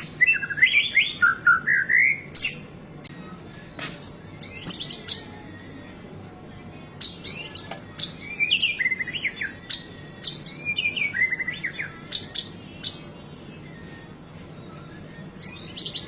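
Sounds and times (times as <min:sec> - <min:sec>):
bird whistling and singing: 0:00.0 - 0:02.8, 0:04.3 - 0:06.0, 0:06.9 - 0:16.0.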